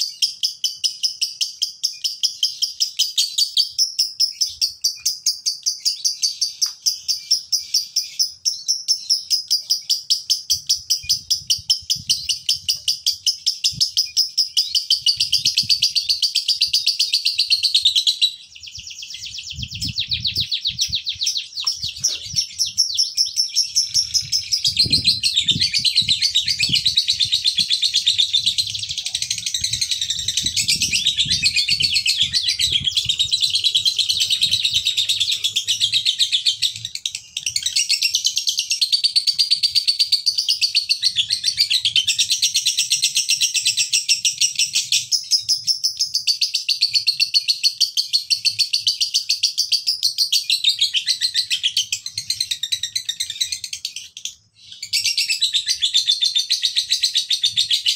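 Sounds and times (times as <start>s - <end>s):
lovebird chattering trill: 0.0s - 57.9s.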